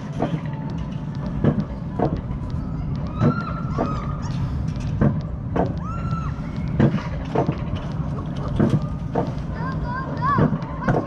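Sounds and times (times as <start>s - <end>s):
coaster sled rumbling on track: 0.0s - 11.0s.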